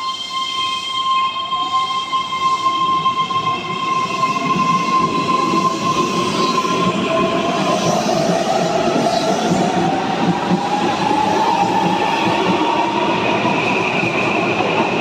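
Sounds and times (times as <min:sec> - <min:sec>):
electric train whine: 0:00.0 - 0:15.0
train wheels rumbling on rails: 0:00.0 - 0:15.0.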